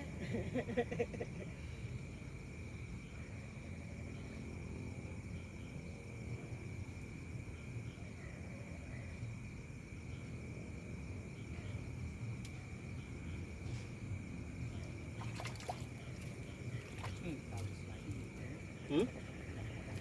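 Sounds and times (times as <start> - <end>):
constant low rumble: 0.0 - 20.0
crickets and insects chirping: 0.0 - 20.0.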